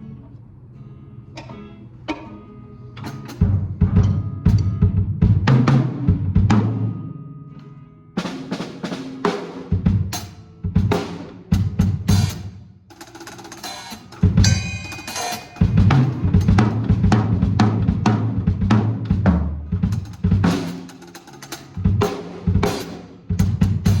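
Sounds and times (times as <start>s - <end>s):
drum kit hits and fills: 3.1s - 7.2s, 8.2s - 24.0s.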